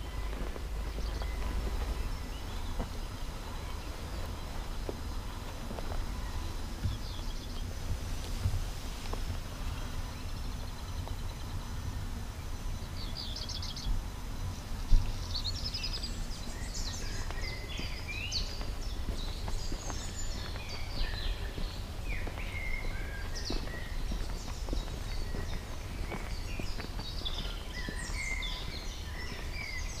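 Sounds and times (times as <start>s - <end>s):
low microphone rumble: 0.0s - 30.0s
songbirds singing: 0.0s - 30.0s.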